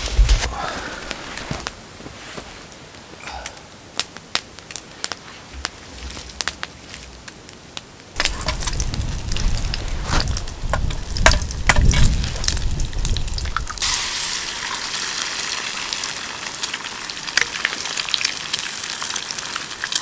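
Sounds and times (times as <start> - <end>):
campfire crackling and popping: 2.7 - 20.0.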